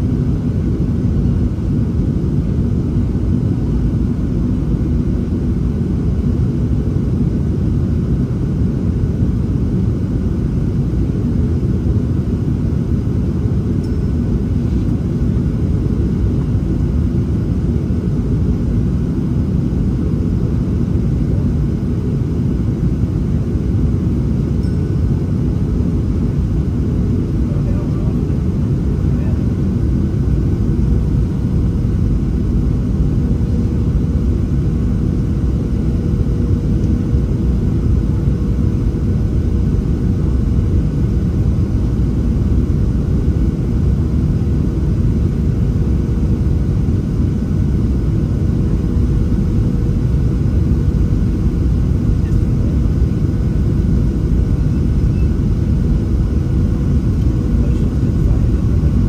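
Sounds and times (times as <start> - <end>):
airplane cabin rumble: 0.0 - 59.0
faint steady hum: 0.0 - 59.0.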